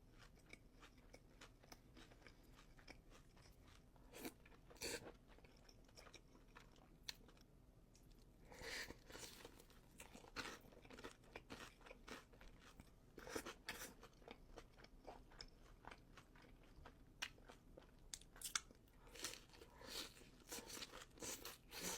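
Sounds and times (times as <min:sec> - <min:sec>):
crunchy chewing: 0:00.1 - 0:07.4, 0:08.0 - 0:21.9.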